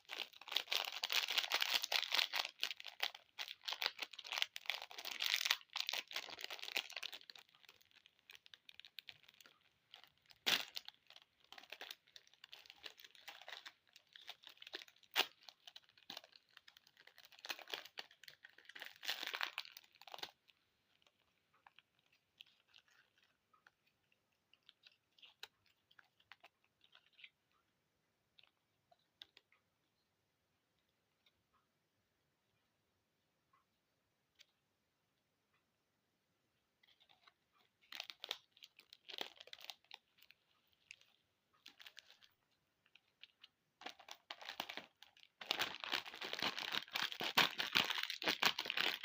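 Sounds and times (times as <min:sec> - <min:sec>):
plastic wrappers crinkling and tearing: 0:00.0 - 0:27.4, 0:36.8 - 0:49.0.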